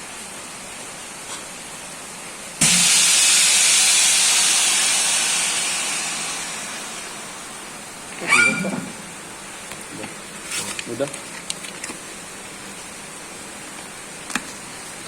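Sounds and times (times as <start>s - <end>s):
vacuum sealer venting hiss: 2.6s - 15.0s.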